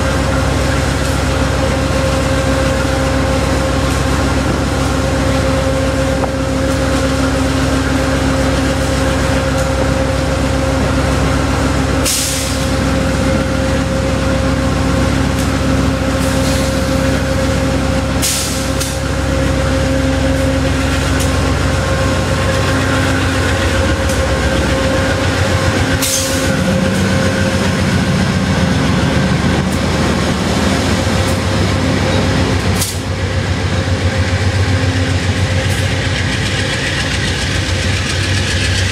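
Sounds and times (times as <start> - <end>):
diesel locomotive engine running hard: 0.0 - 38.9.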